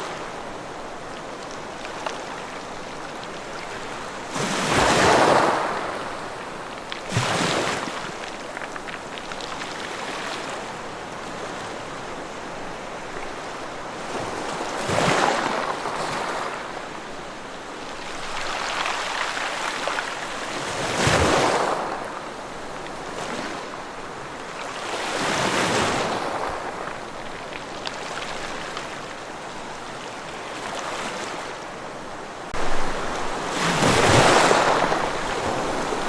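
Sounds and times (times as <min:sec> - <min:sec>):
ocean waves crashing on shore: 0:00.0 - 0:36.0.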